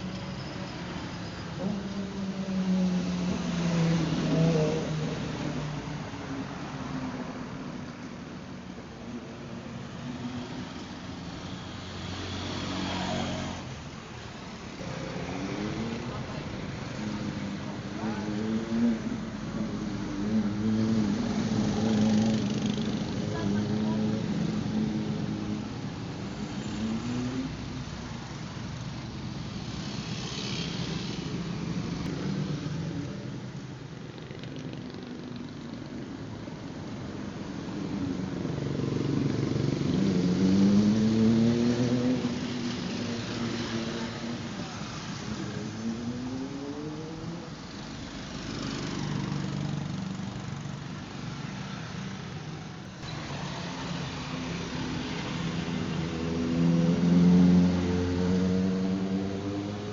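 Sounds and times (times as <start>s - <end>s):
rush of wind or road noise: 0.0s - 59.9s.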